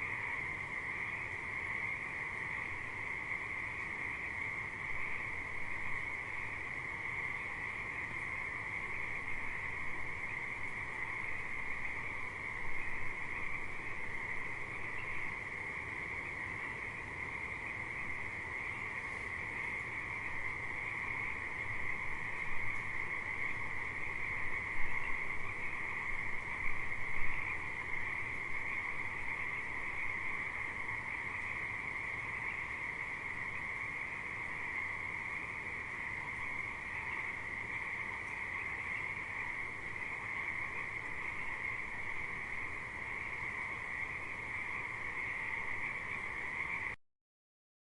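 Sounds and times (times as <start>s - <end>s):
chorus of frogs trilling: 0.0s - 47.0s.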